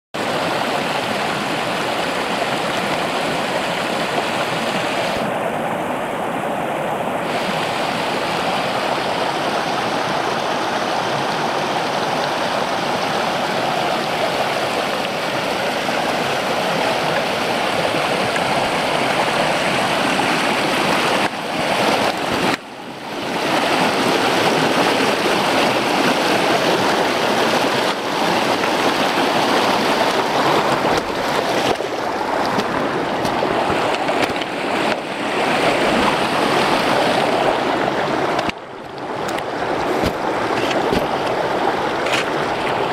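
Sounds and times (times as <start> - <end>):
creek rushing over rocks: 0.2 - 42.9.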